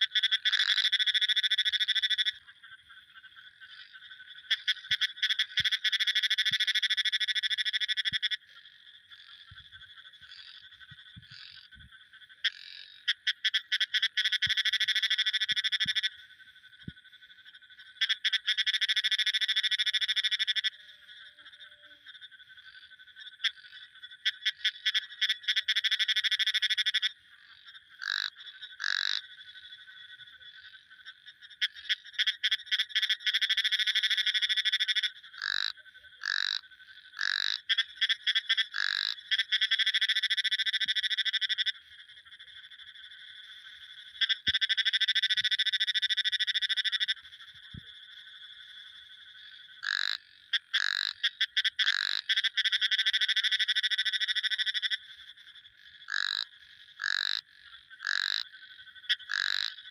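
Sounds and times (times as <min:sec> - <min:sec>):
frogs trilling: 0:00.0 - 0:59.9
single frog calls: 0:00.0 - 0:59.9.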